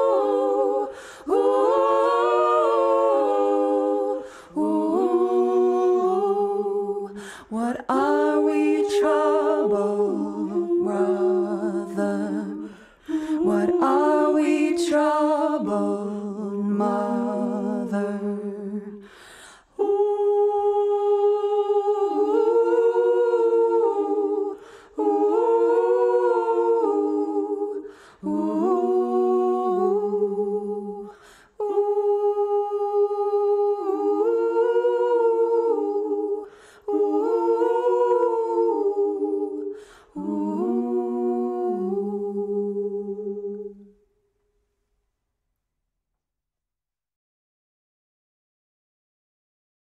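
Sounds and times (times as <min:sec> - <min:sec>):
voices humming in harmony: 0:00.0 - 0:19.0, 0:19.8 - 0:43.9.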